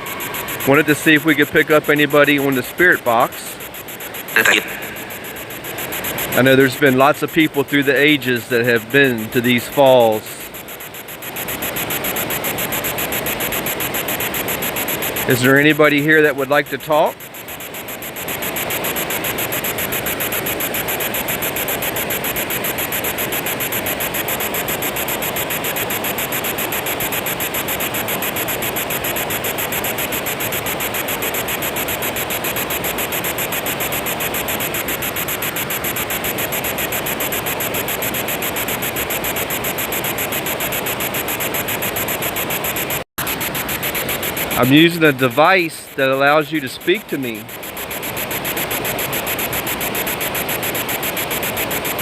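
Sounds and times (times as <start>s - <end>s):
pulsing radio static: 0.0s - 52.0s.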